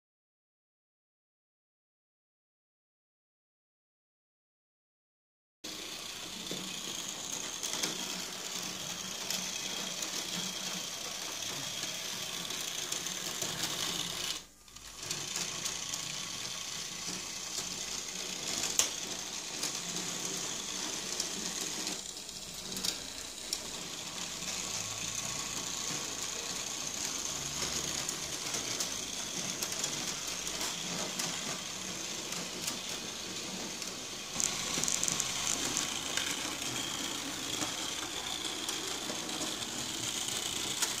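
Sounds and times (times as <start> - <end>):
model streetcar motor whirring: 5.7 - 41.0.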